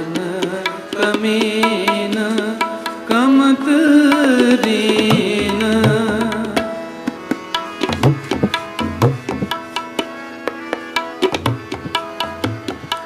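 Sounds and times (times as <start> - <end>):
held harmonium notes: 0.0 - 13.0
tabla playing: 0.0 - 13.0.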